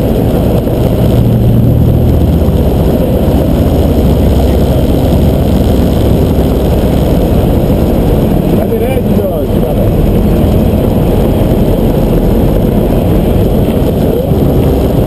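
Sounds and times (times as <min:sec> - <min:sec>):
aircraft engine and propeller droning: 0:00.0 - 0:15.0.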